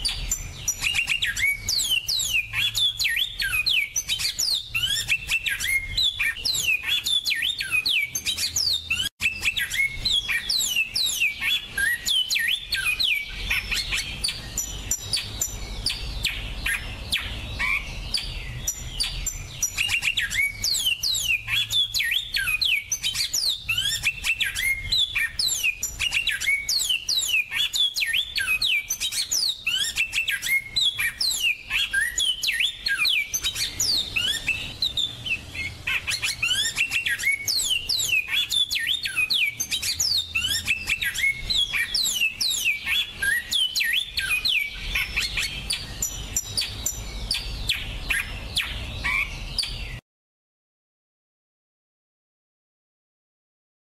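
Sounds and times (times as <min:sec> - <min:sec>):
finch song with twittering chirps: 0:00.0 - 0:50.0.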